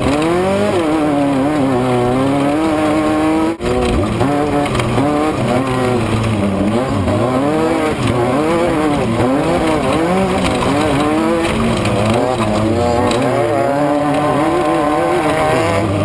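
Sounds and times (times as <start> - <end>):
race vehicle engine revving: 0.0 - 16.0.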